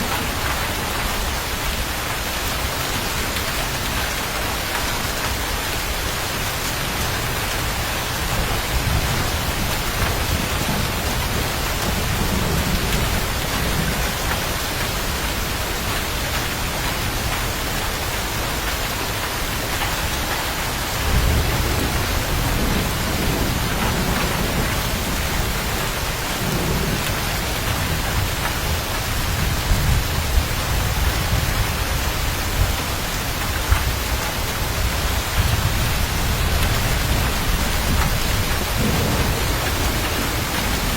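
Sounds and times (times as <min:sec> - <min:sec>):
thunder rumbling: 0:00.0 - 0:17.3, 0:20.7 - 0:40.9
heavy rain hissing: 0:00.0 - 0:40.9.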